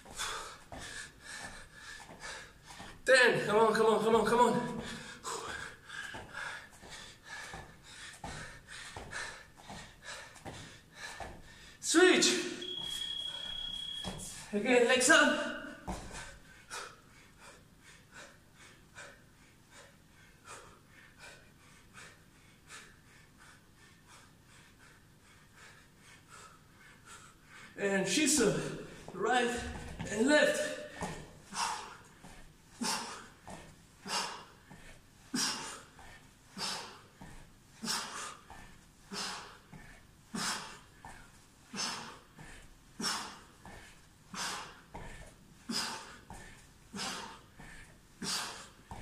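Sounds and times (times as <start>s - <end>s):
man breathing hard: 0.0s - 3.0s, 4.6s - 11.8s, 15.8s - 27.8s, 30.7s - 49.0s.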